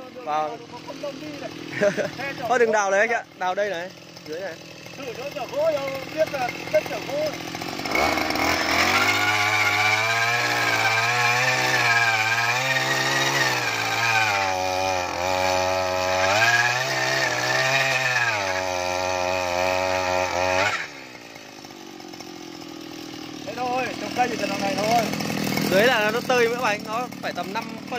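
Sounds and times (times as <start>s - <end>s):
earth auger engine drilling: 0.0s - 27.9s.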